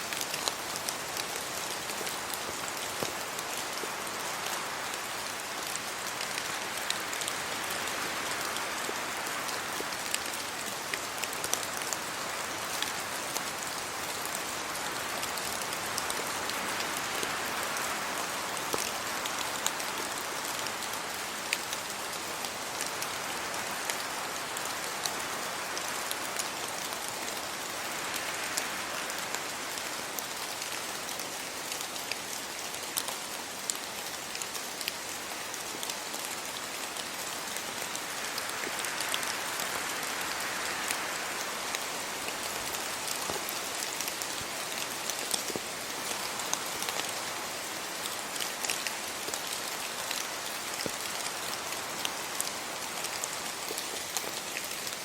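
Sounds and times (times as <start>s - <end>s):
steady rain: 0.0s - 55.0s
wind through tree leaves: 0.0s - 55.0s.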